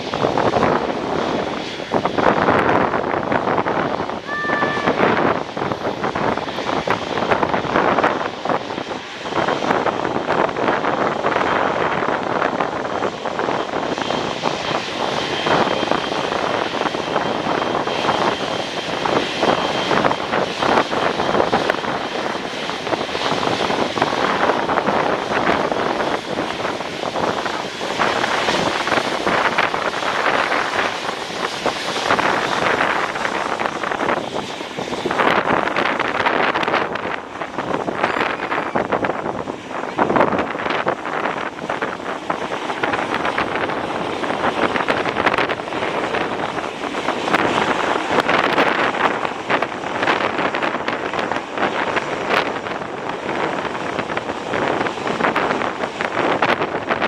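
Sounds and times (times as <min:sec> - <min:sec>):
airliner engine rushing: 0:00.0 - 0:57.0
wind buffeting microphone: 0:00.0 - 0:57.0.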